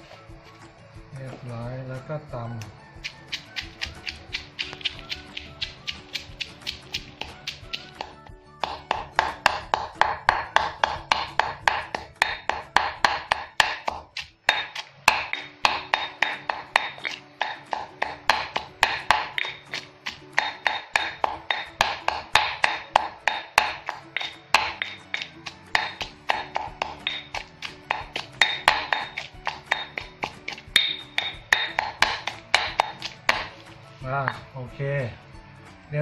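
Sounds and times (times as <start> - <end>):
pestle pounding in stone mortar: 3.0 - 34.6.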